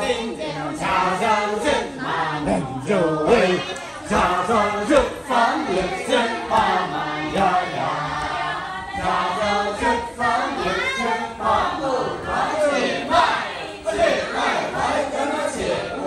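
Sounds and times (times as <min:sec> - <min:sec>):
choir singing unaccompanied: 0:00.0 - 0:16.0.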